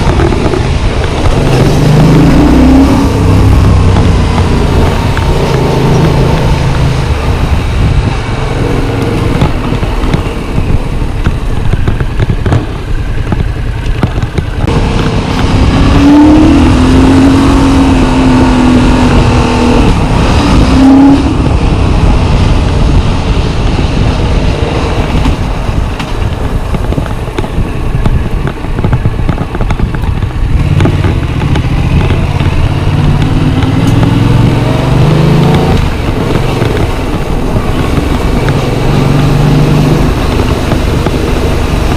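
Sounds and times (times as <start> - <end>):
motorcycle engine running: 0.0 - 41.9
wind noise: 0.0 - 41.9.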